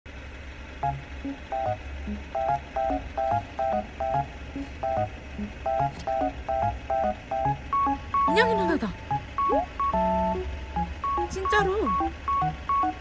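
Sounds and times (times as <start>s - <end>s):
bouncy staccato background music: 0.8s - 13.0s.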